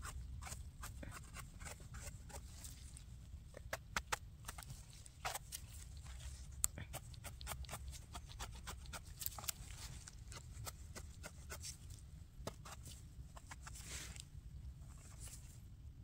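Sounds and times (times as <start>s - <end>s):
knife scraping mushroom stem: 0.0s - 2.8s, 3.7s - 14.2s.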